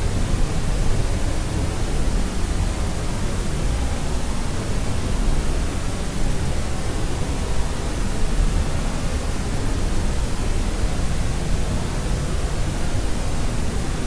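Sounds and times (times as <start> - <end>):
steady pink noise hiss: 0.0 - 14.0.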